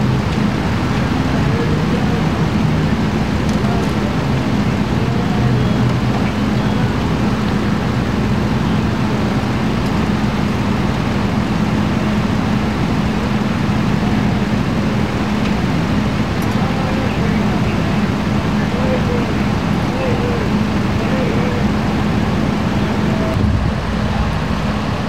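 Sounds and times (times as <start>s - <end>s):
fire engine idling: 0.0s - 25.0s.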